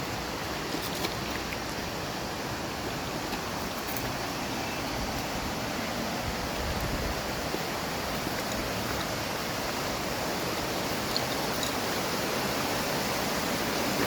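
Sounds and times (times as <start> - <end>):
water rushing in a stream: 0.0 - 14.0.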